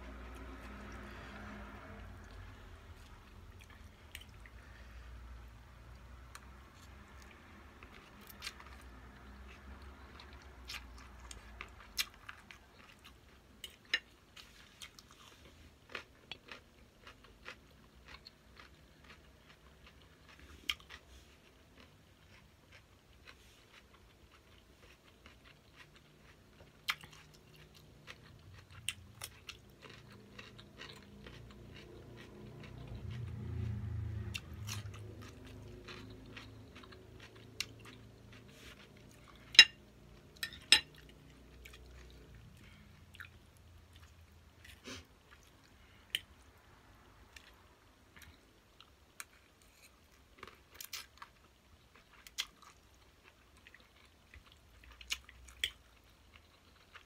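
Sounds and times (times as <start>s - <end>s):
chewing noodle salad: 0.0s - 57.0s.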